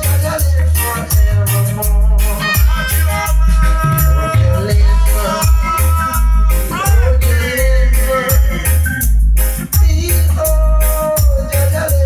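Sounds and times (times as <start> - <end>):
loud reggae music: 0.0 - 12.0.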